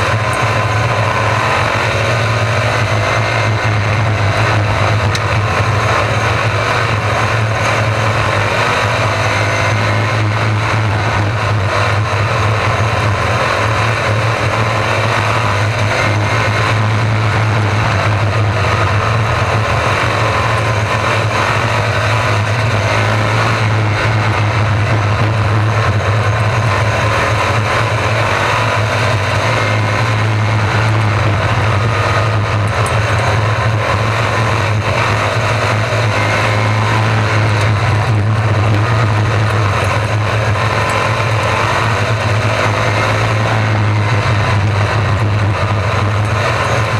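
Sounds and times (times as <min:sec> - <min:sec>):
race car engines running: 0:00.0 - 0:46.9.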